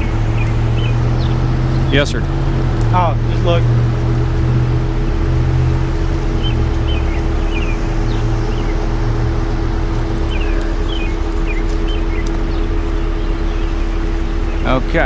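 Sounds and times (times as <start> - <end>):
diesel engine humming: 0.0 - 15.0
small birds chirping: 0.0 - 15.0.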